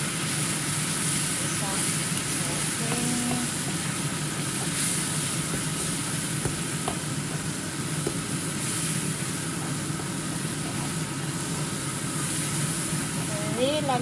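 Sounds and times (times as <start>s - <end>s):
sauce sizzling in a frying pan: 0.0s - 14.0s.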